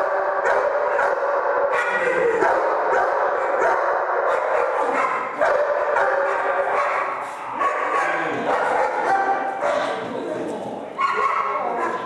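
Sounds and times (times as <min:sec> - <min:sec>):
dog barking: 0:00.0 - 0:10.0, 0:11.0 - 0:12.0.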